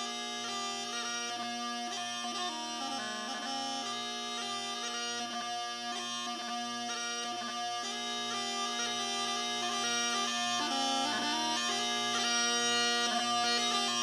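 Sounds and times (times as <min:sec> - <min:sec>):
bagpipe chanter melody: 0:00.0 - 0:14.0
bagpipe drone: 0:00.0 - 0:14.0.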